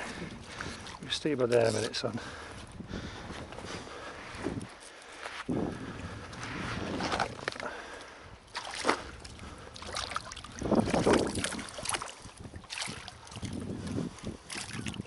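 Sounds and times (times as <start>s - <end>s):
water sloshing and splashing: 0.0s - 3.1s, 3.9s - 15.0s.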